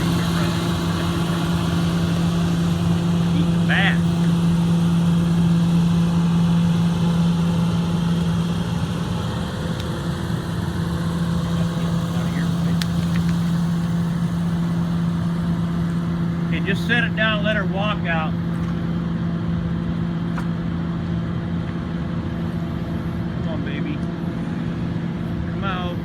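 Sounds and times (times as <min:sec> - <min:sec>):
excavator engine humming: 0:00.0 - 0:26.0.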